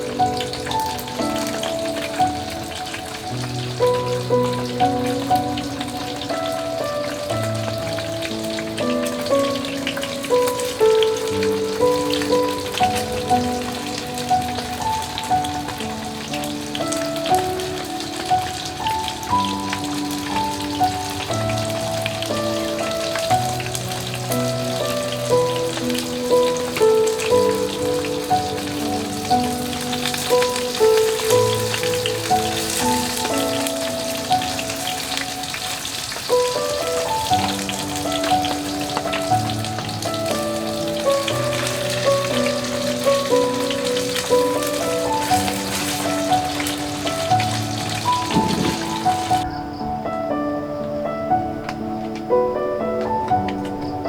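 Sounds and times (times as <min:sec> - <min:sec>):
gentle music of held notes: 0:00.0 - 0:54.0
rain drops pattering: 0:00.0 - 0:54.0.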